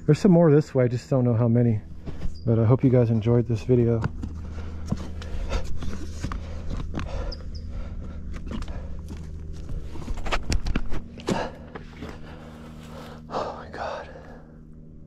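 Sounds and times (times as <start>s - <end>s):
footsteps on rough ground: 1.4s - 13.8s.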